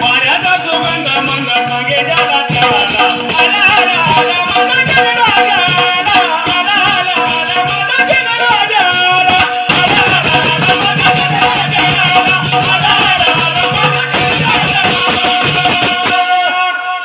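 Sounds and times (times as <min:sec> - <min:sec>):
hand percussion beat: 0:00.0 - 0:16.6
man singing with vibrato: 0:00.0 - 0:17.0.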